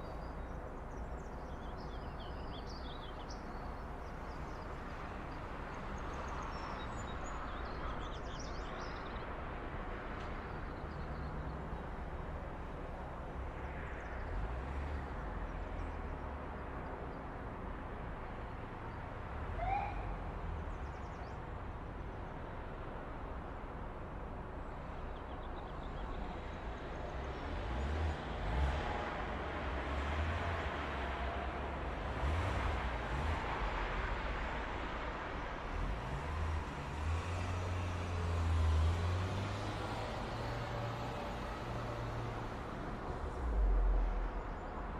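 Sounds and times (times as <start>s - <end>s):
low traffic rumble: 0.0s - 44.9s.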